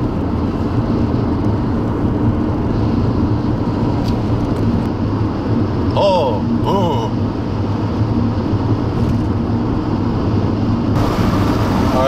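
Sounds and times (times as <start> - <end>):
car road noise at speed: 0.0 - 12.0.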